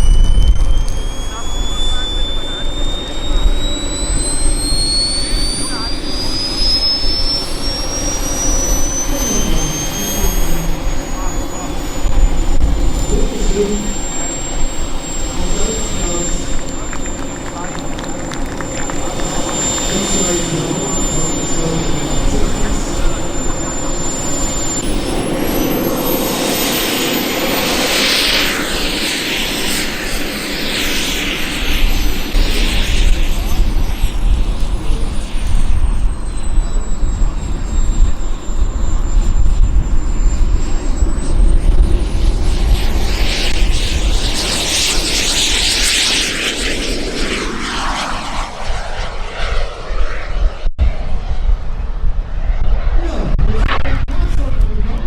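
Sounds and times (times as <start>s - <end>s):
jet turbine whistle: 0.0s - 55.0s
wind rumbling on microphone: 0.0s - 55.0s.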